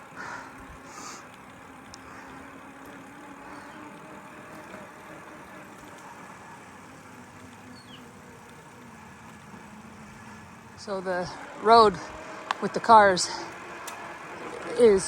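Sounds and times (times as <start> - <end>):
faint engine tone: 0.0 - 15.0
road traffic hum: 0.0 - 15.0.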